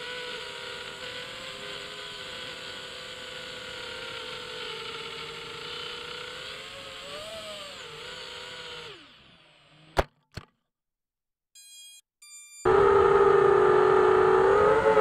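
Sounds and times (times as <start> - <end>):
quadcopter motors whining: 0.0 - 10.0, 12.6 - 15.0.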